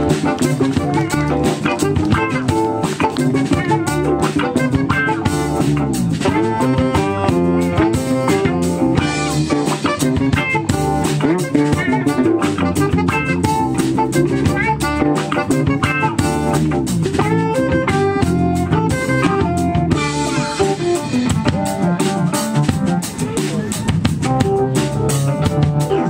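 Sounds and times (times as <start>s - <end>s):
alto saxophone: 0.0s - 23.5s
drum kit: 0.0s - 26.0s
electric guitars: 0.0s - 26.0s
keyboard: 0.0s - 26.0s.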